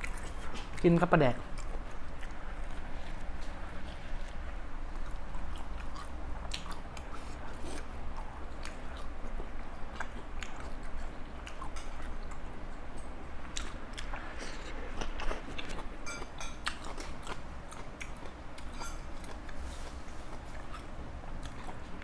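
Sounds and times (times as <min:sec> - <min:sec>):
person chewing and crunching: 0:00.0 - 0:22.0
steady low hum: 0:00.0 - 0:22.0.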